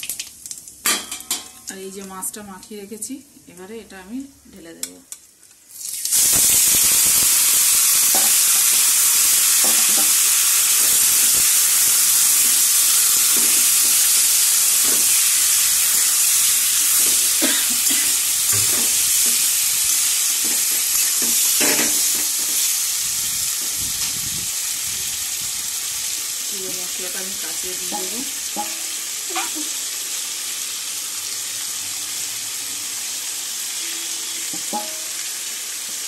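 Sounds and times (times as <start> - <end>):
fish sizzling in hot oil: 5.7 - 36.0.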